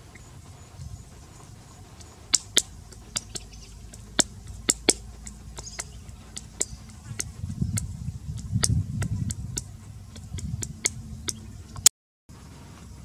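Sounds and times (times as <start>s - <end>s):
hands patting wet mud: 0.0s - 11.9s.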